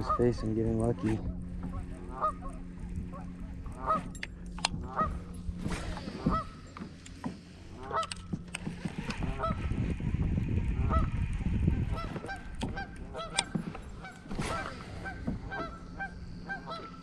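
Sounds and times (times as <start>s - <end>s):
geese honking: 0.0s - 6.9s, 7.6s - 8.3s, 9.0s - 9.8s, 10.8s - 17.0s
steady low hum: 0.0s - 17.0s.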